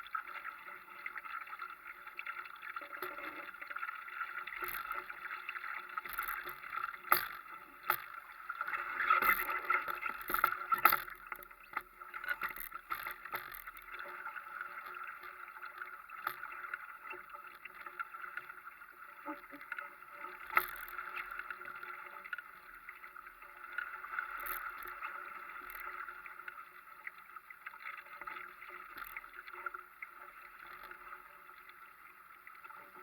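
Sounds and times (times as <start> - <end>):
water splashing along hull: 0.0 - 33.0.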